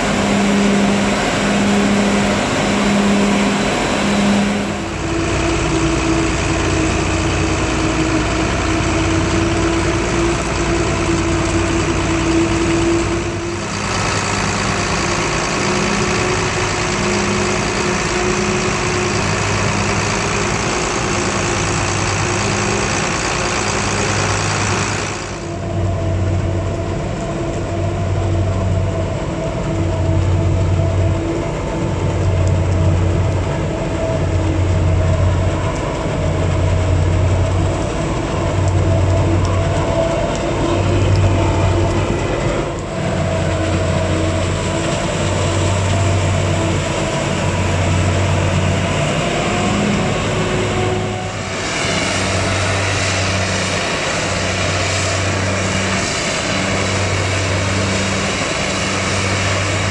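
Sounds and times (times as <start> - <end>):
forage harvester engine drone: 0.0 - 59.9
mechanical whine: 0.0 - 59.9.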